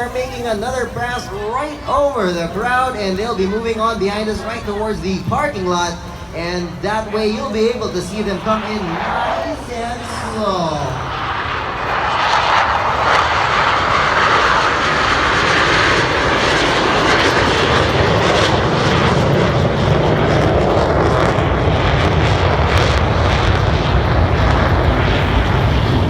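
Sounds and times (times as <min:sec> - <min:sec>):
deep jet rumble: 0:00.0 - 0:26.0
jet roar passing overhead: 0:00.0 - 0:26.0.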